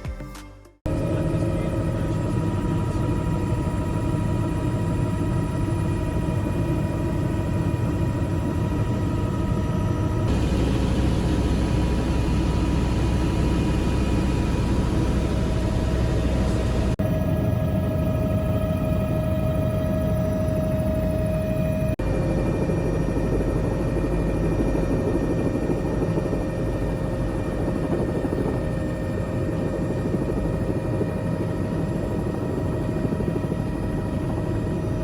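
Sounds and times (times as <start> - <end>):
helicopter rotor and engine drone: 0.9 - 35.0
helicopter whine: 0.9 - 35.0.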